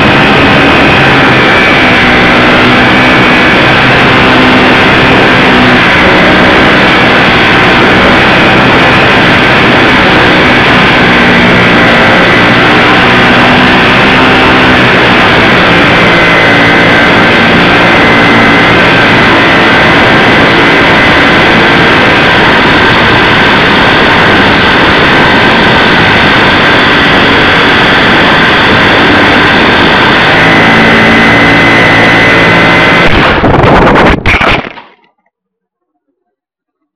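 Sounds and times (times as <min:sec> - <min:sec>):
electric motor and propeller whine: 0:00.0 - 0:34.7
wind rush on microphone: 0:00.0 - 0:34.8.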